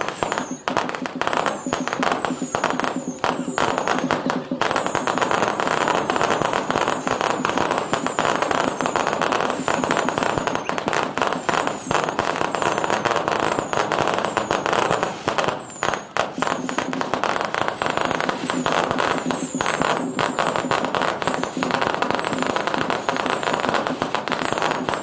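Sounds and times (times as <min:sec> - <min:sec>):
falling firework whistles: 0:00.0 - 0:25.0
fireworks crackling and banging: 0:00.0 - 0:25.0.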